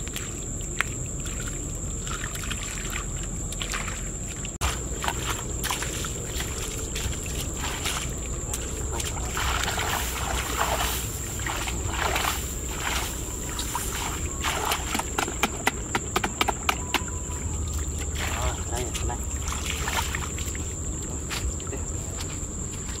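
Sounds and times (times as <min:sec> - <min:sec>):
muddy water sloshing and splashing: 0:00.0 - 0:23.0.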